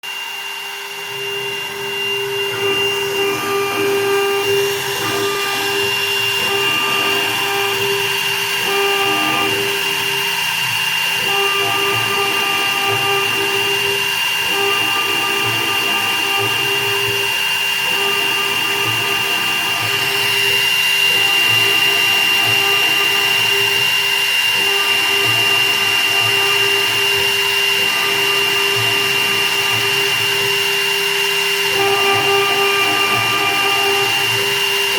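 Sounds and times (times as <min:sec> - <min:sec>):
milling machine spindle whine: 0:00.0 - 0:34.9.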